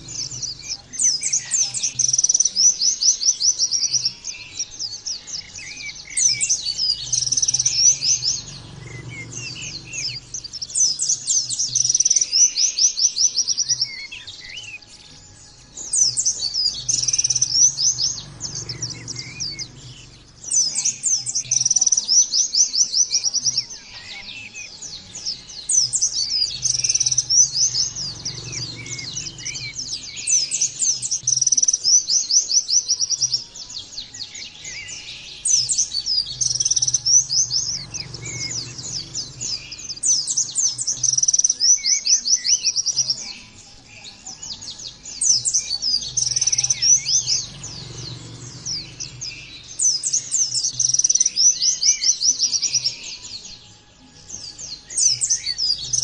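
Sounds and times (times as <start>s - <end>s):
bird trilling: 0.0s - 53.4s.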